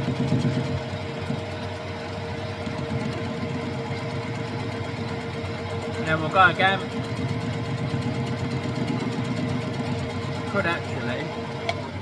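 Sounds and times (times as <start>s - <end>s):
metal lathe running: 1.5s - 12.0s.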